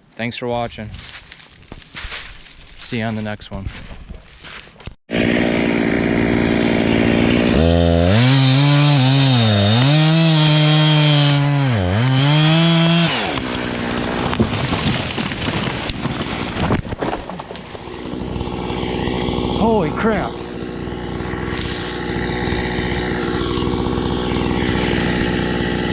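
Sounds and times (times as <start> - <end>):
chainsaw revving and cutting: 5.1 - 25.9.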